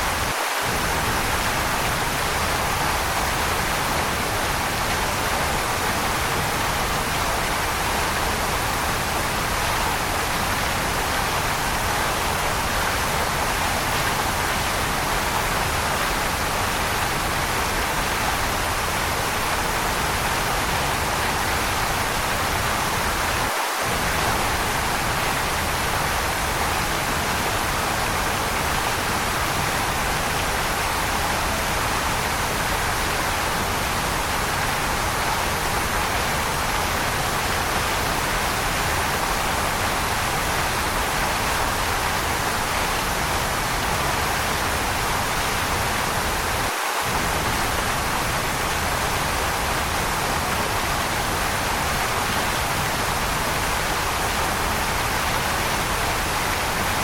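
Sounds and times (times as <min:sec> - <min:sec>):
waterfall hissing: 0:00.0 - 0:57.0.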